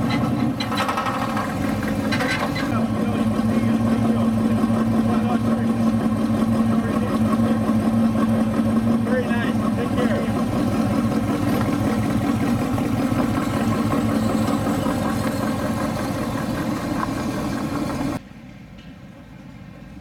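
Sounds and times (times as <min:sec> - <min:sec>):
car engine idling loudly: 0:00.0 - 0:18.2.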